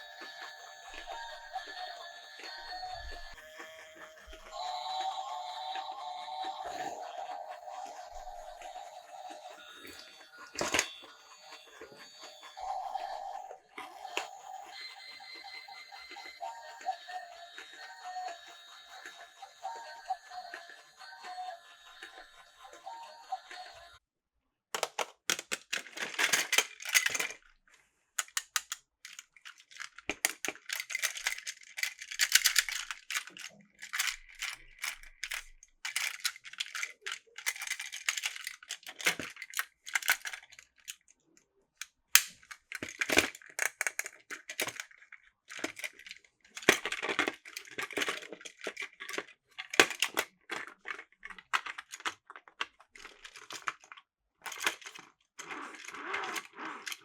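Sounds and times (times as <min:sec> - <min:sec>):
plastic toy parts clattering: 0:00.2 - 0:03.4, 0:06.5 - 0:12.0, 0:12.6 - 0:19.3, 0:24.8 - 0:27.6, 0:28.2 - 0:41.1, 0:41.8 - 0:57.0.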